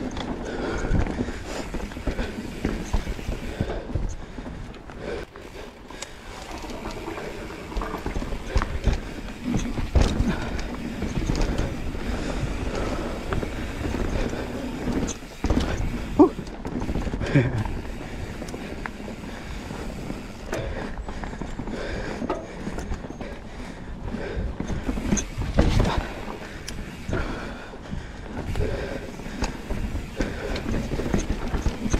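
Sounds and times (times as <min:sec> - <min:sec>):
bike knocking and rattling: 0:00.0 - 0:31.9
bike tyres rolling on dirt: 0:00.0 - 0:31.9.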